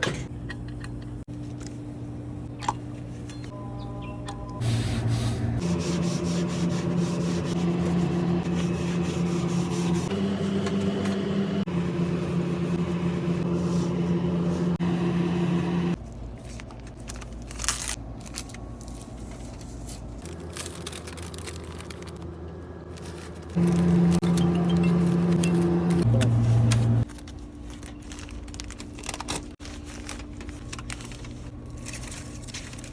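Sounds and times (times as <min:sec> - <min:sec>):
air conditioning unit humming: 0:00.0 - 0:32.9.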